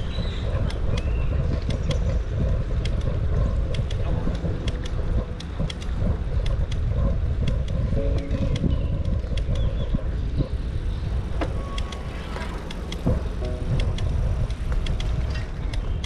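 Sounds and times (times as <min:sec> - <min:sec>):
bicycle clicks and rattles: 0:00.0 - 0:16.0
wind buffeting microphone: 0:00.0 - 0:16.0.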